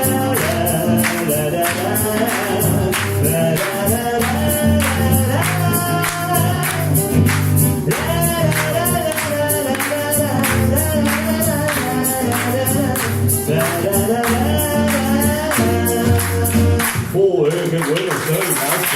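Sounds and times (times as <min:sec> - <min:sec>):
voices singing la la la: 0:00.0 - 0:07.0, 0:07.9 - 0:17.0
live band music: 0:00.0 - 0:17.3
hands clapping along: 0:00.0 - 0:18.9.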